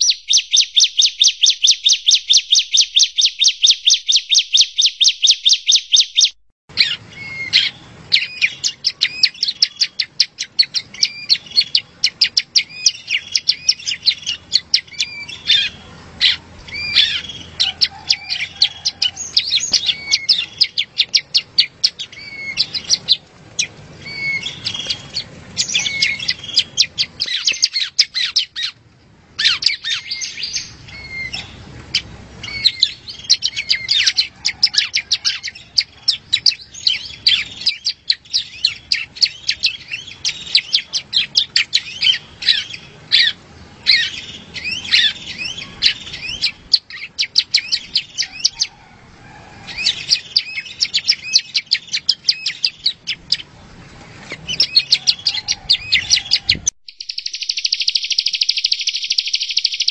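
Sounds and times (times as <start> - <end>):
songbird singing high chirps: 0.0 - 28.8, 29.4 - 48.8, 49.7 - 53.5, 54.5 - 59.9.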